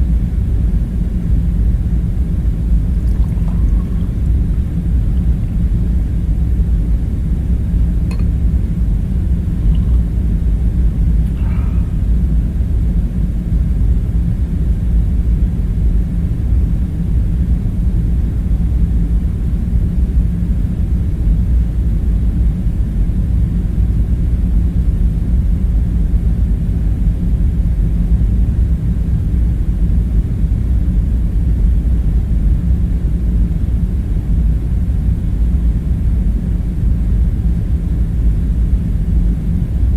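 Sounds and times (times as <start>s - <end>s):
low ambient rumble: 0.0s - 39.9s.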